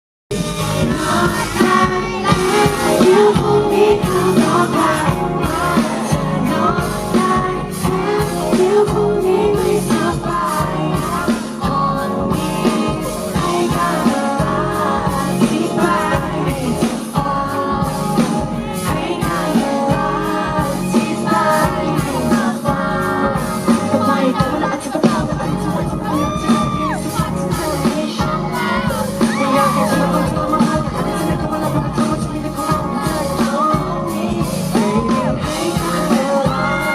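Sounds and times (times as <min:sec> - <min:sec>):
live pop band playing: 0:00.3 - 0:36.9
person singing: 0:00.3 - 0:36.9.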